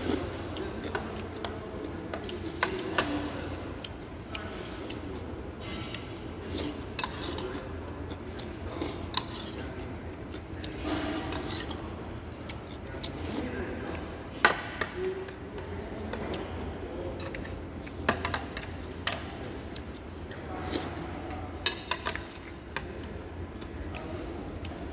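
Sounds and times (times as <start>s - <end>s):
soft eating sounds: 0.0s - 24.9s.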